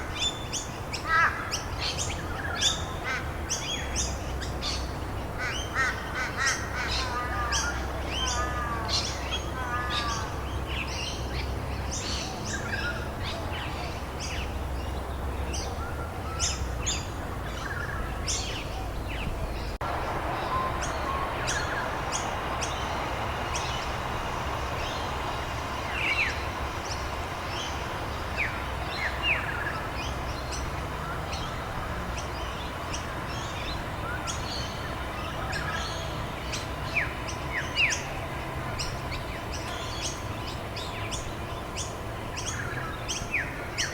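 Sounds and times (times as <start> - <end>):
small birds chirping: 0.0 - 43.9
steady background hiss: 0.0 - 43.9.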